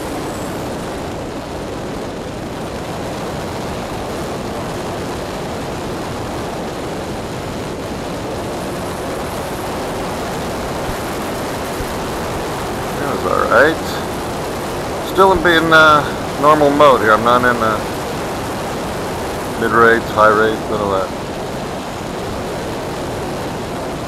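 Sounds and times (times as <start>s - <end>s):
airflow rushing: 0.0s - 24.0s
model airplane propeller noise: 0.0s - 24.0s.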